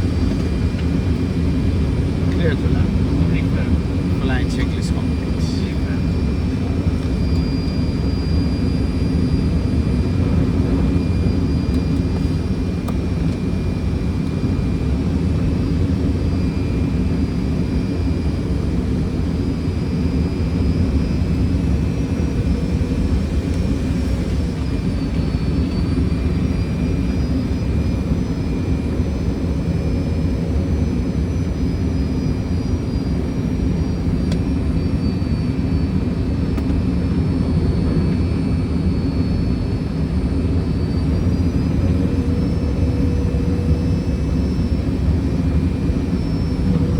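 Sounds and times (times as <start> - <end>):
airflow and turbofan rumble: 0.0 - 46.9
faint high whine: 0.0 - 46.9.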